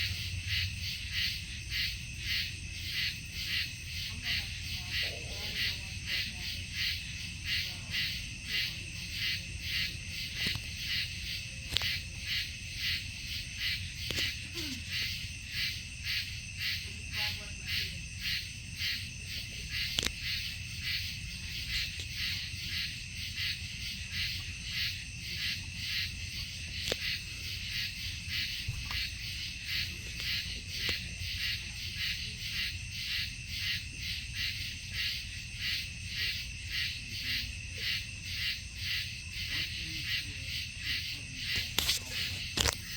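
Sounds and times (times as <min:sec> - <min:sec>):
insects chirping: 0:00.0 - 0:42.9.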